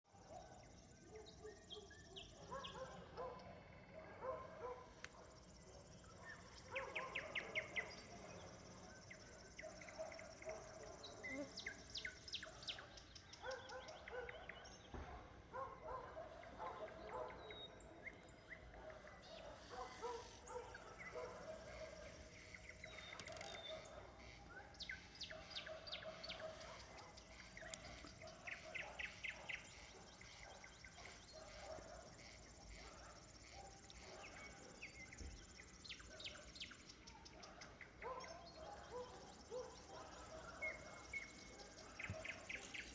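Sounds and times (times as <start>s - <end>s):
distant dogs barking: 0.1s - 42.9s.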